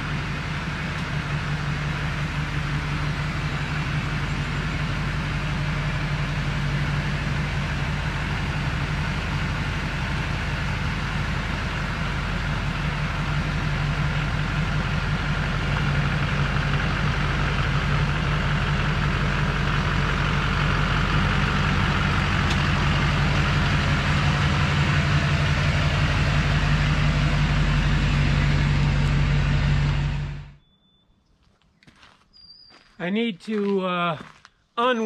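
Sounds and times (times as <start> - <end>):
diesel truck engine droning: 0.0 - 30.8.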